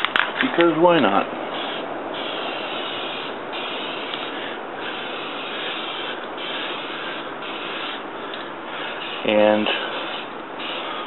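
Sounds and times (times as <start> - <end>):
spray paint can hissing: 1.5 - 11.0.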